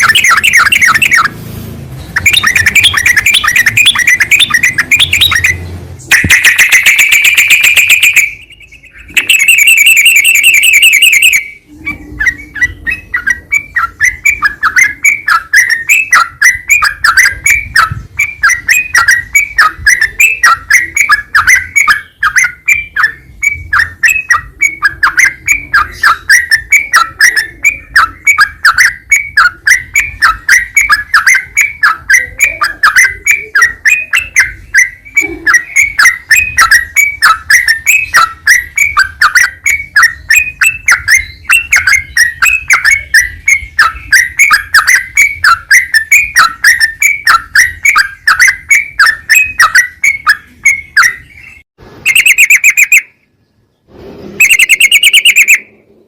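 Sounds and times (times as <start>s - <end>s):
bird song with trills and chirps: 0.0s - 56.0s.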